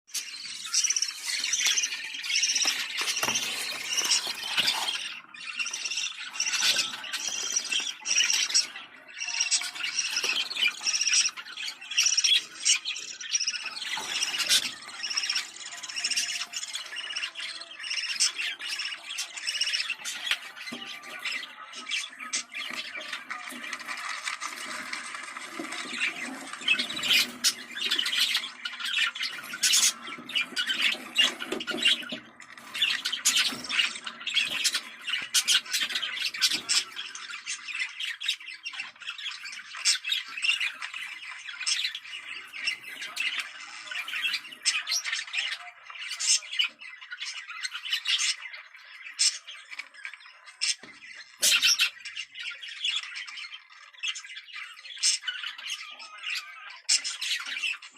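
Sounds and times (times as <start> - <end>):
budgerigars chattering: 0.1 - 57.9.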